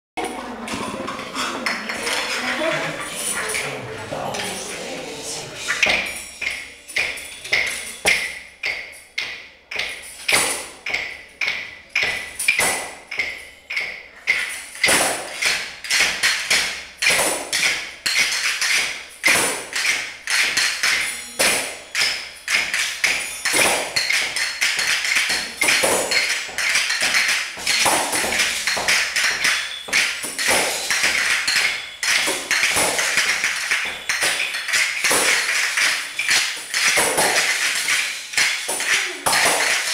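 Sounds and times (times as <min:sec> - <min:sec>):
children striking paper sheets: 0:00.2 - 0:39.9
hand percussion shakers: 0:00.2 - 0:39.9.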